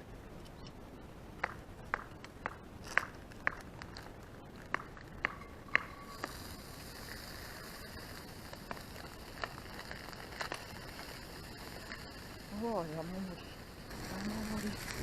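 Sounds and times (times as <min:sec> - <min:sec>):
wood fire crackling and snapping: 0:00.4 - 0:15.0.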